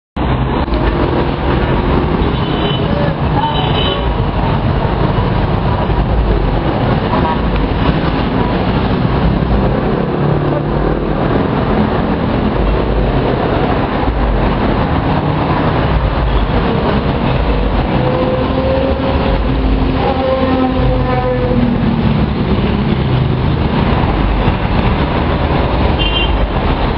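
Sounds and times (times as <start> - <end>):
heavy road traffic roar: 0.2 - 26.9
engine note rising: 4.2 - 26.0.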